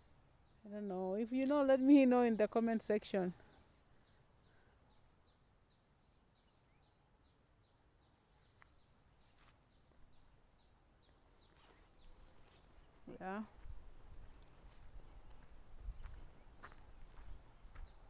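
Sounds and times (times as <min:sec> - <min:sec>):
faint bird chirps: 0:03.4 - 0:18.0.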